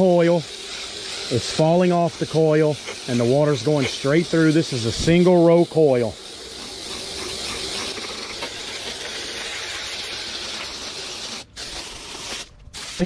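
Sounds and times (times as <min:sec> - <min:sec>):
hose spray nozzle hissing: 0:00.0 - 0:13.0.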